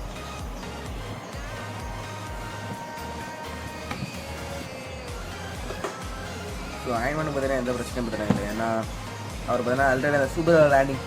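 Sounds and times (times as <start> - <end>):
music with held tones and pulsing beat: 0.0 - 11.0.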